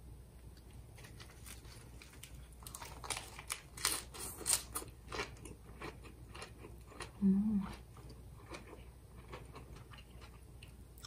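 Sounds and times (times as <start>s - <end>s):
crunching and chewing lettuce wrap: 0.6s - 11.0s.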